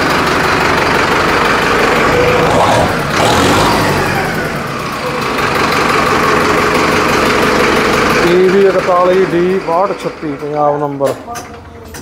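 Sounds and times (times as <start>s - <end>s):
diesel tractor engine running: 0.0s - 11.8s.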